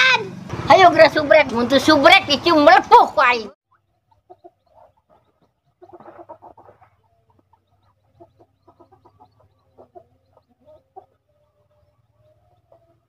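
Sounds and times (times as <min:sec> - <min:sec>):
birds clucking: 0:02.1 - 0:13.0.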